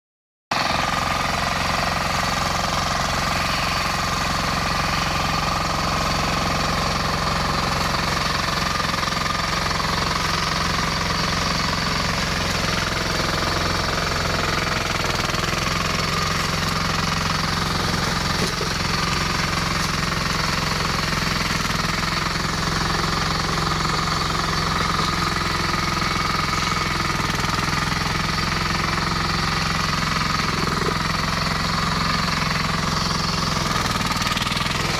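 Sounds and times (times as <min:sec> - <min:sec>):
diesel engine running steadily: 0:00.5 - 0:34.9.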